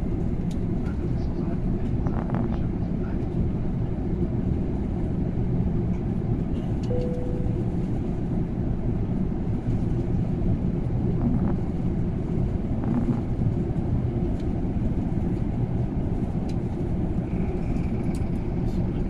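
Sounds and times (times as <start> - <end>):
airliner engines rumbling: 0.0 - 19.0.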